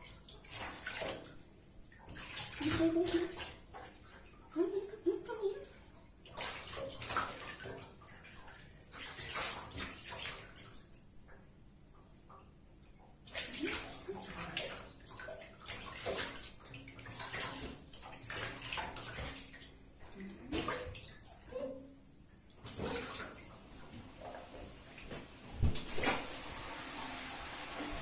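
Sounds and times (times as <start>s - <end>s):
water splashing in bathtub: 0.0s - 28.0s.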